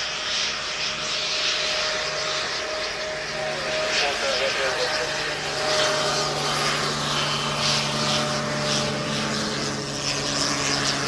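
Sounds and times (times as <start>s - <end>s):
propeller hiss: 0.0s - 11.0s
turboprop engines running: 0.0s - 11.0s.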